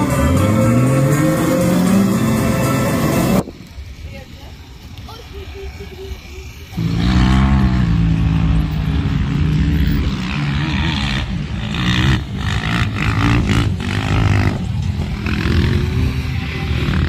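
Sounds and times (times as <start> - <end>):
off-road vehicle engines revving: 0.0 - 3.5, 6.4 - 17.0.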